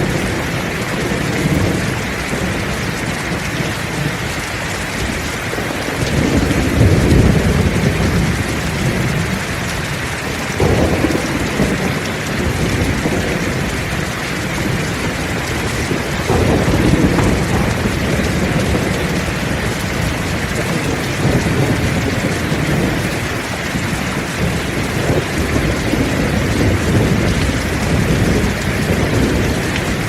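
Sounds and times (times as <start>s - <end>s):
heavy rain falling: 0.0s - 30.0s
thunder rumbling: 0.0s - 30.0s.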